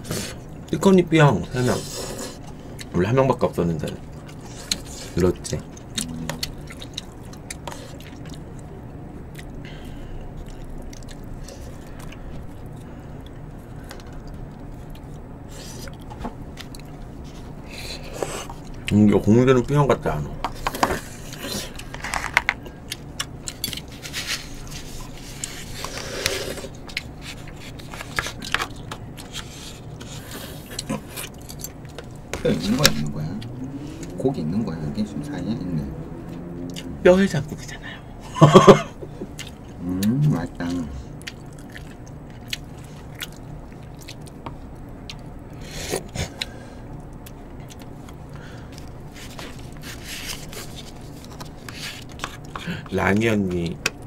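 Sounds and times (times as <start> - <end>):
chewing: 3.8 - 19.0, 20.6 - 34.2, 36.2 - 37.0, 39.2 - 54.0.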